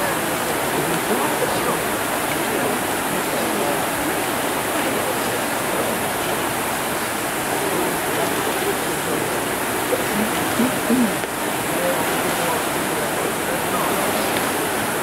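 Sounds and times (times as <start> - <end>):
indistinct crowd voices: 0.0 - 15.0.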